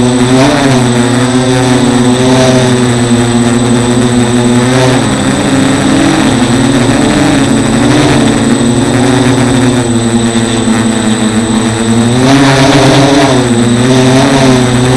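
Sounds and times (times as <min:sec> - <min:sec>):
drone motors and propellers buzzing: 0:00.0 - 0:14.9.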